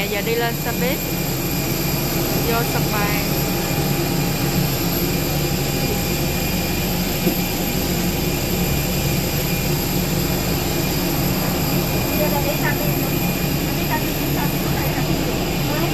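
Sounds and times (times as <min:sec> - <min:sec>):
engine drone: 0:00.0 - 0:15.9.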